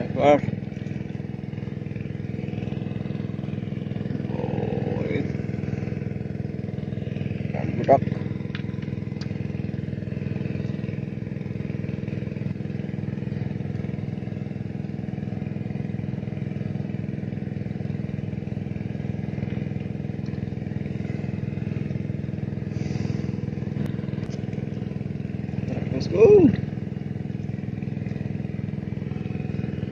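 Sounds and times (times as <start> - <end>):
engine running steadily: 0.0 - 29.9.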